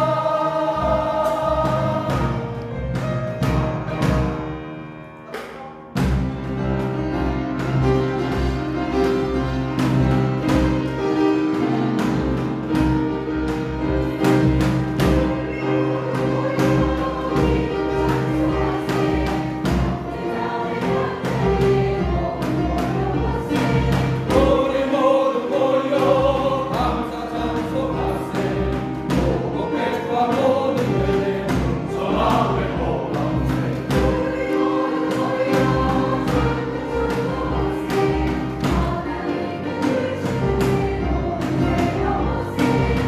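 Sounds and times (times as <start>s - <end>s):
choir singing: 0.0s - 43.0s
orchestral accompaniment: 0.0s - 43.0s.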